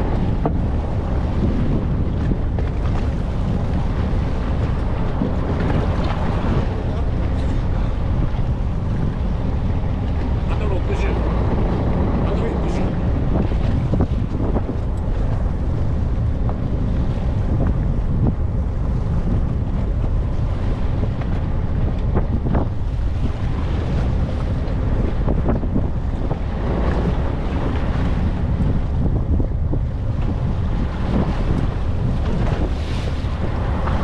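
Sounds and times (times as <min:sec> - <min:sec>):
fishing boat rushing at sea: 0:00.0 - 0:34.0
wind buffeting the microphone: 0:00.0 - 0:34.0.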